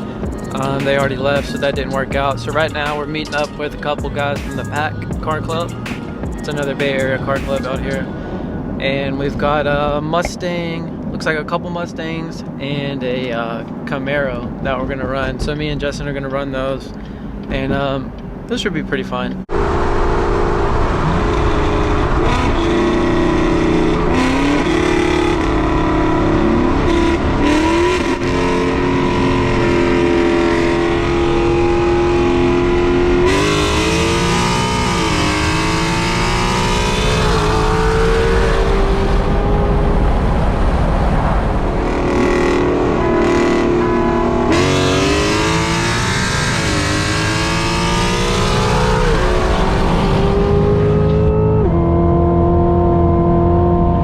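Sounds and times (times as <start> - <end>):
car engine accelerating hard: 0.0 - 10.3, 11.0 - 54.0.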